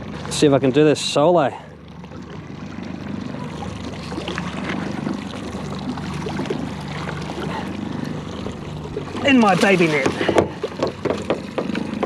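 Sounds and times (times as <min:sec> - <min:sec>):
outboard motor idling: 0:00.0 - 0:12.0
water sloshing and splashing: 0:00.0 - 0:12.0.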